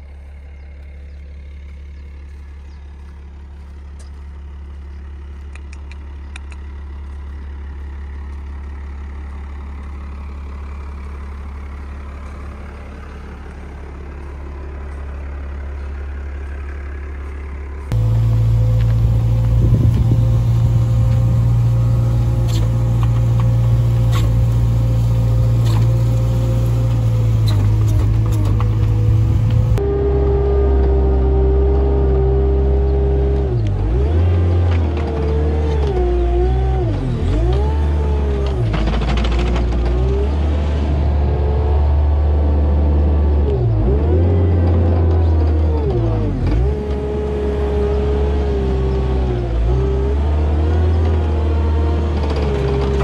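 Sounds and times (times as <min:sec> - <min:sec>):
loader engine under load: 0:00.0 - 0:53.0.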